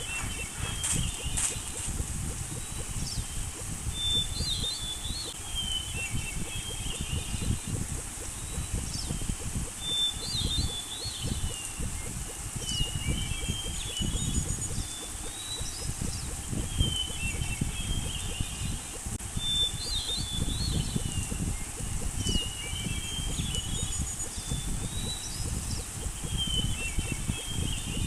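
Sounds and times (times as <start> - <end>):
low rumbling background: 0.0 - 28.0
small birds chirping: 0.0 - 28.0.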